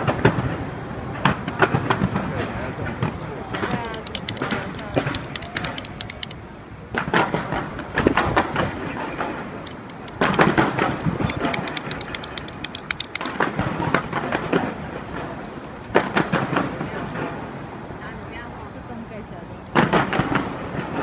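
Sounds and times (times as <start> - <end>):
fireworks booming: 0.0 - 12.2, 12.8 - 21.0
fireworks crackling: 0.0 - 21.0.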